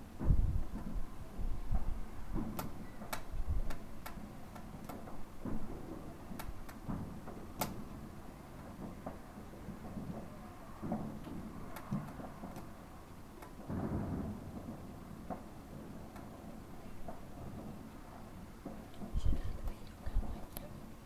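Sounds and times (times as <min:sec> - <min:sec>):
distant fireworks cracking: 0:00.0 - 0:21.0
low firework booms: 0:00.0 - 0:21.0.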